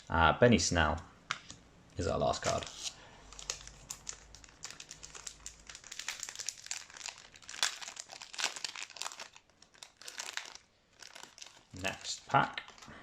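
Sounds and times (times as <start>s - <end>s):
foil wrapper crinkling and tearing: 2.4s - 12.9s.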